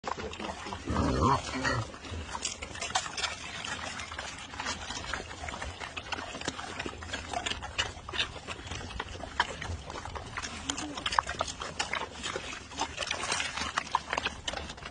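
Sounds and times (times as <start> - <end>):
pigs chewing wetly: 0.0 - 14.9.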